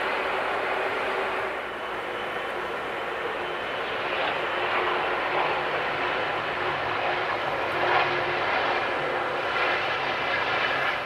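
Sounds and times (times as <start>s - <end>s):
jet engines at taxi power: 0.0s - 11.0s.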